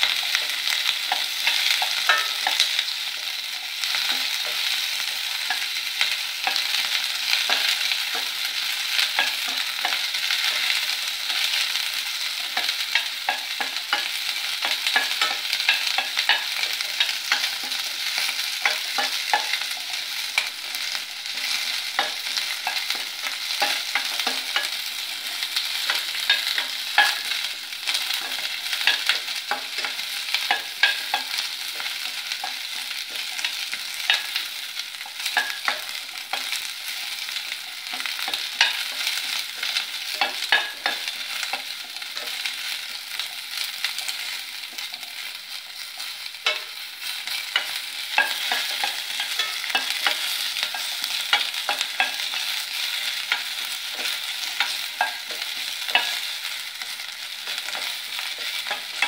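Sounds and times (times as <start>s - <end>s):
onions sizzling in hot oil: 0.0s - 59.0s
spatula scraping a pan: 0.0s - 59.0s.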